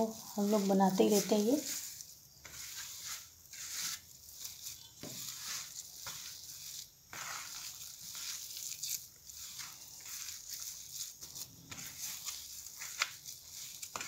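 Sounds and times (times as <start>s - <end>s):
hand kneading dough in steel plate: 0.0s - 14.0s.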